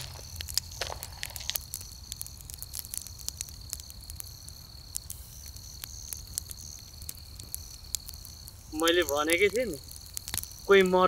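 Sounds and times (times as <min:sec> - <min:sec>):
fire crackling and popping: 0:00.0 - 0:11.0
night insects chirring: 0:00.0 - 0:11.0.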